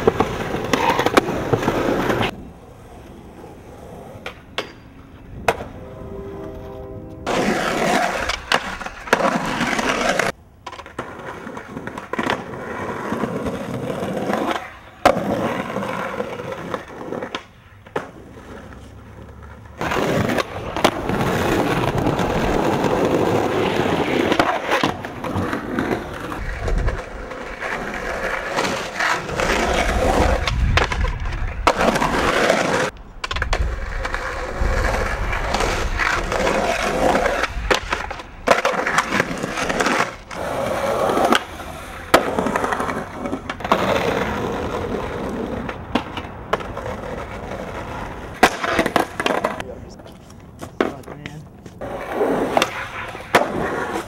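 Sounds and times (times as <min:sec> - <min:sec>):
skateboard clacks: 0:00.0 - 0:05.8, 0:07.2 - 0:54.0
skateboard wheels rolling on concrete: 0:00.0 - 0:54.0.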